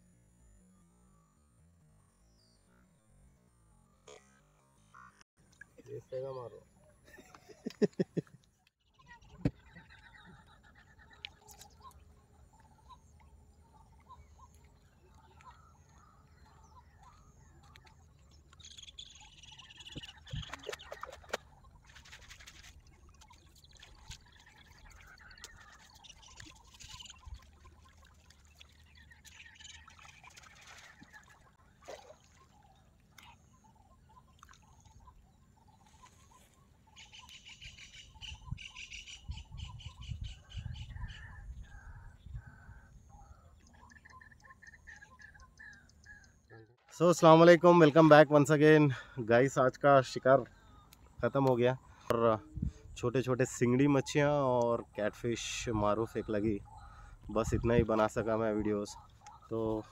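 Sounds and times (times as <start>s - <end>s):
birds chirping: 2.2s - 59.9s.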